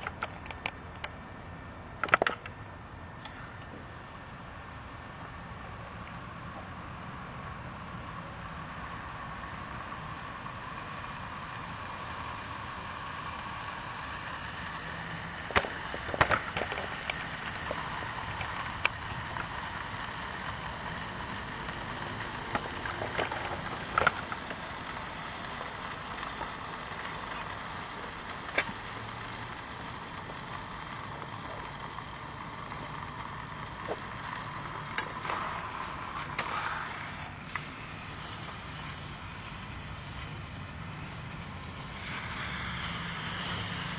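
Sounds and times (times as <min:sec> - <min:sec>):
sharp crackles and pops: 0:00.0 - 0:43.9
wood gas stove hissing: 0:00.0 - 0:43.9.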